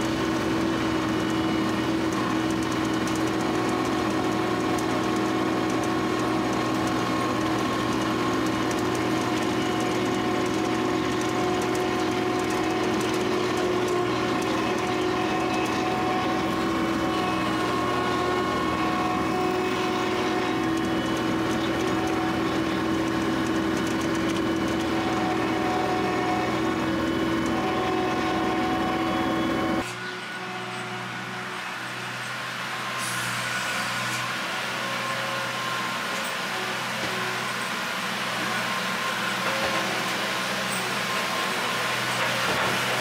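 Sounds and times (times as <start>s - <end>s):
engine running with whine: 0.0s - 43.0s.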